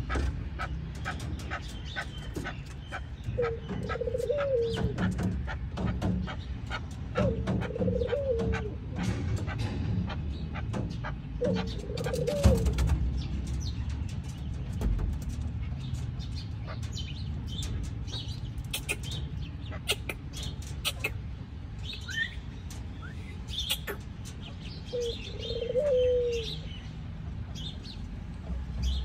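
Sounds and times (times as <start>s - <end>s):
partridges chirping and clicking: 0.0s - 25.7s.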